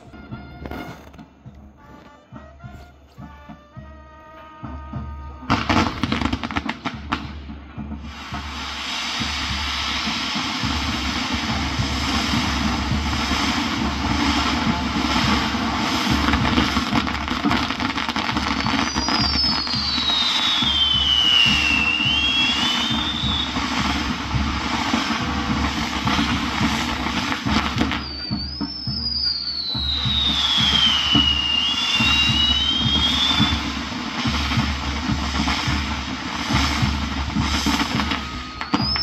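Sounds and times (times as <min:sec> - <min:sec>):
fireworks bangs and crackles: 0:00.0 - 0:39.0
fireworks hissing and crackling: 0:00.0 - 0:39.0
whistling firework: 0:00.0 - 0:39.0.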